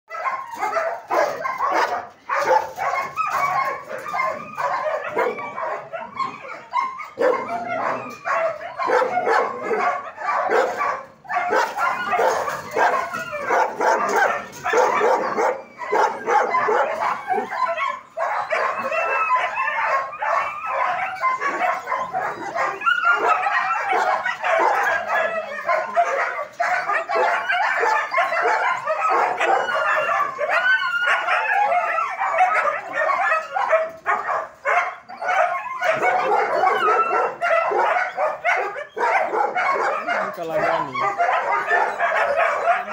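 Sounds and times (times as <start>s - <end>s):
dogs barking and yelping: 0.1s - 42.9s.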